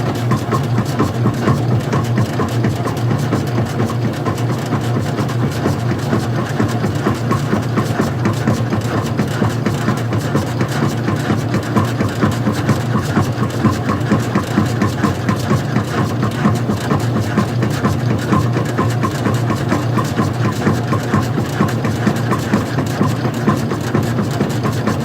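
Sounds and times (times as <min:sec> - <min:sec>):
washing machine motor hum: 0:00.0 - 0:25.0
washing machine rattling and ticking: 0:00.0 - 0:25.0.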